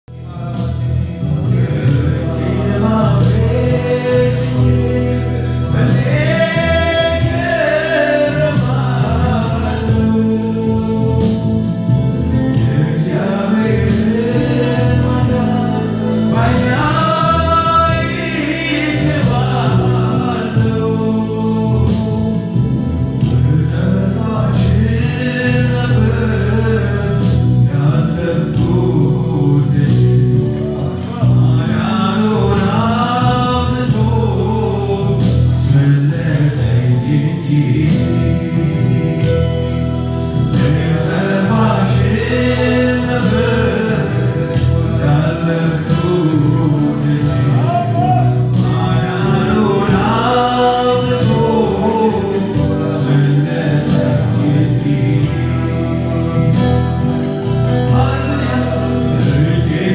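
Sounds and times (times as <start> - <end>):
choir singing gospel song: 0.1 - 59.9
instrumental backing with beat: 0.1 - 59.9.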